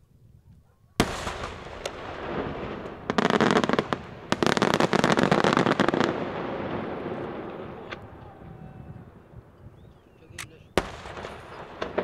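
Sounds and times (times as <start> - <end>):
fireworks crackling: 1.0 - 9.7, 10.7 - 12.0.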